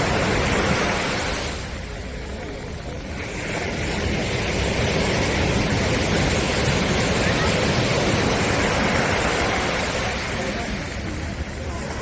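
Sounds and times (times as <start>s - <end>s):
waves washing on beach: 0.0s - 12.0s.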